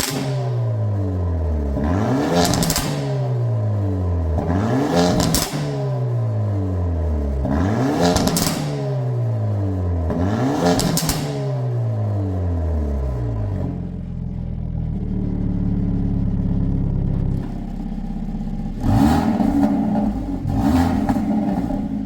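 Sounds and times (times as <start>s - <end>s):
car engine revving with crackle: 0.0s - 22.0s.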